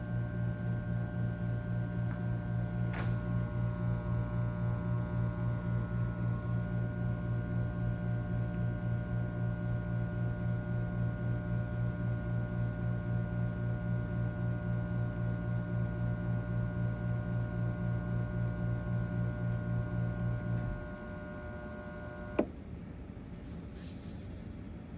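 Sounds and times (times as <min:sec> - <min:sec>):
espresso machine buzzing hum: 0:00.0 - 0:22.6.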